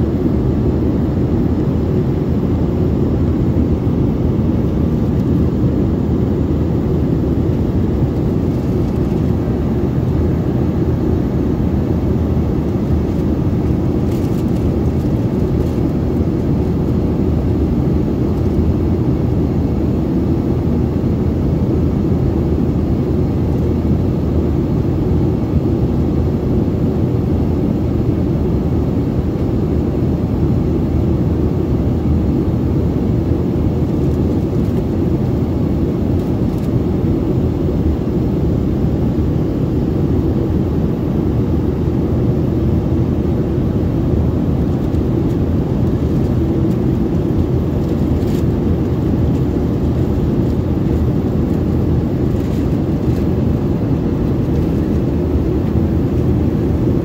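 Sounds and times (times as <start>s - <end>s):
jet cabin engine and airflow noise: 0.0s - 57.0s.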